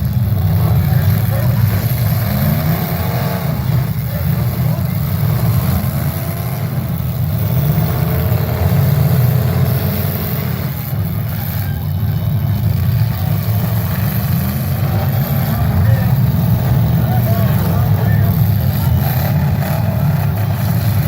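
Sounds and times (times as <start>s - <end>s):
car engines running and revving: 0.0s - 21.0s.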